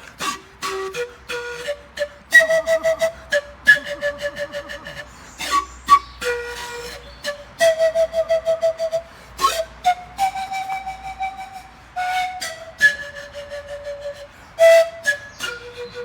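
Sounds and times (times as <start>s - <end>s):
flute playing a melody: 0.0s - 16.0s.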